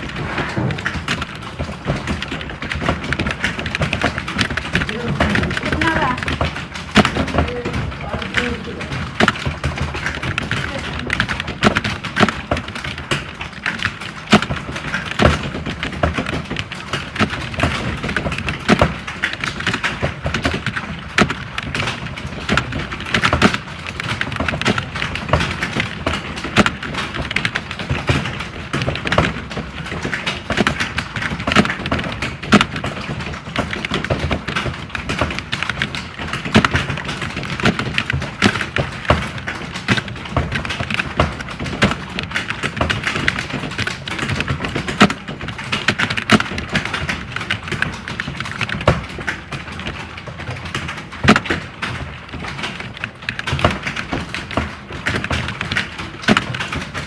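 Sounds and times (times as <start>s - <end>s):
fast keyboard typing: 0.0s - 57.0s.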